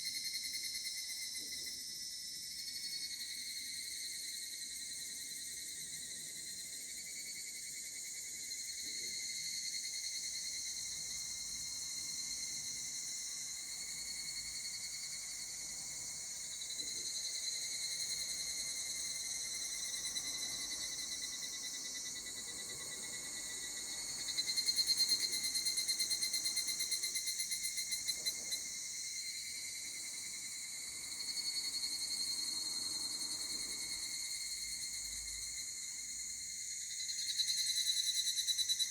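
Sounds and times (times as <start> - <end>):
cicada chorus: 0.0 - 38.9
rapidly pulsing cicada call: 0.0 - 38.9.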